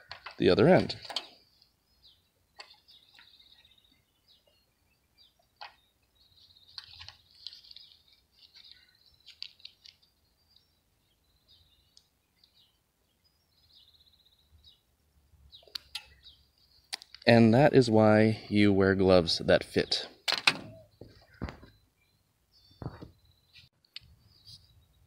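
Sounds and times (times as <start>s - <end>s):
birdsong chirps and trills: 0.0s - 25.0s.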